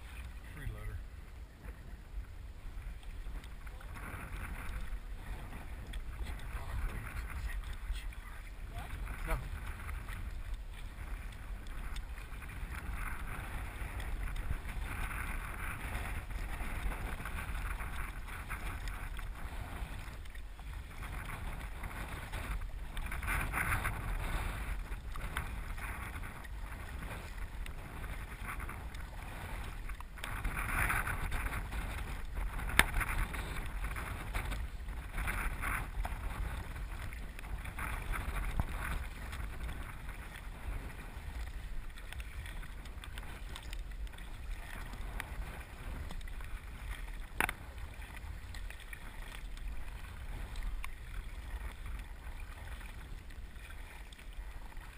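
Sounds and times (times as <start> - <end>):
paddles swishing through water: 0.0 - 54.9
wind rumble on microphone: 0.0 - 54.9.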